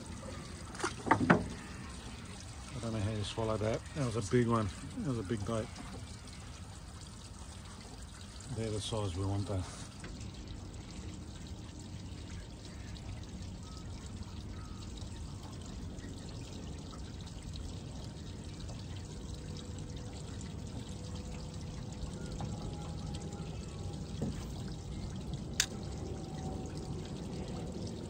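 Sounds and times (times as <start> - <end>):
water pouring and trickling: 0.0 - 28.0.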